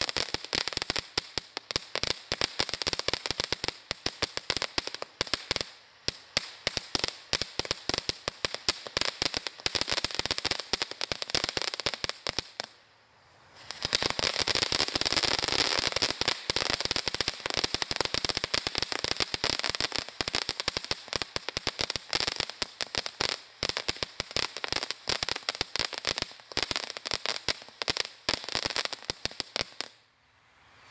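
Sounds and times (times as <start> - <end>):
rushing firework spray: 0.0 - 30.0
firework fountain crackling: 0.0 - 30.1.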